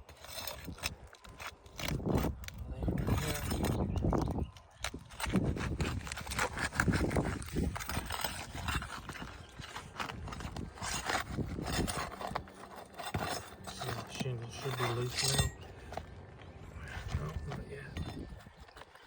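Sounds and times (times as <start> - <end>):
pry bar knocking and scraping: 0.0 - 16.1.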